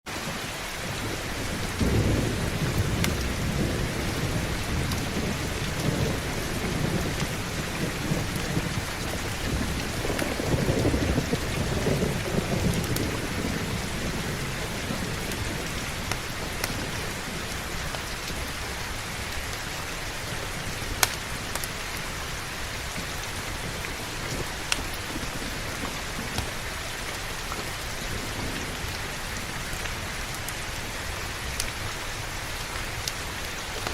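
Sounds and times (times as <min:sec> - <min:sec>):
heavy rain: 0:00.1 - 0:33.9
thunder rumbling: 0:00.2 - 0:32.6.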